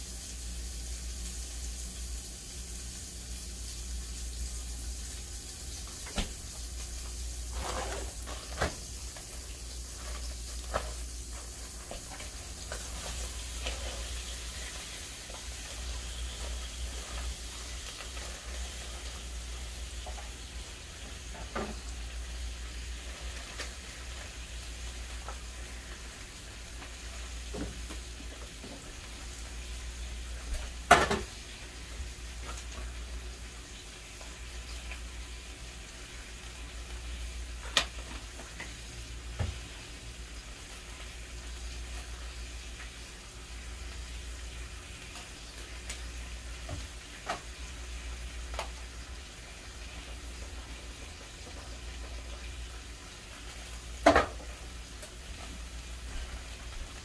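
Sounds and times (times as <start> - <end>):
food sizzling in a skillet: 0.0 - 57.0.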